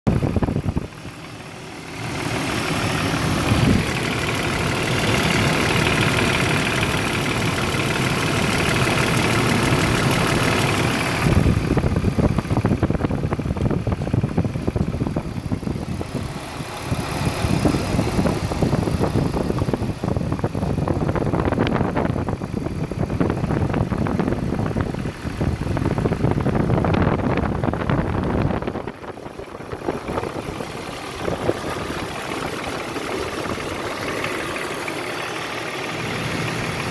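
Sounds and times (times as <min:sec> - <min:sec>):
engine running: 0:00.1 - 0:36.9
rapid engine knocking: 0:00.1 - 0:36.9.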